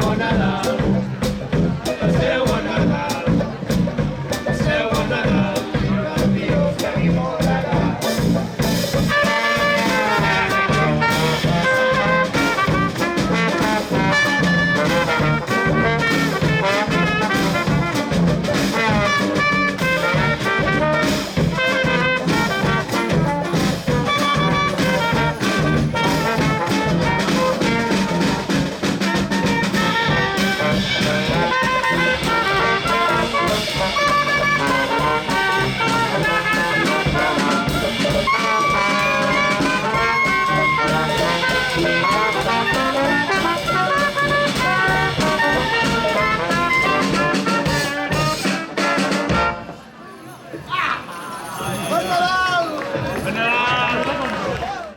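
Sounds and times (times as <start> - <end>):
big band swing jazz: 0.0 - 50.0.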